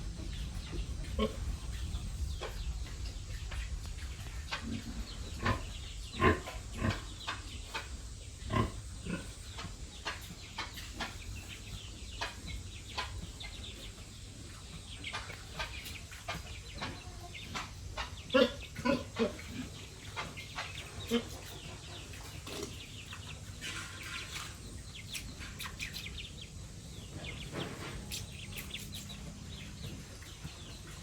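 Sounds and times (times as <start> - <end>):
pig and chicken calls: 0.0 - 31.0.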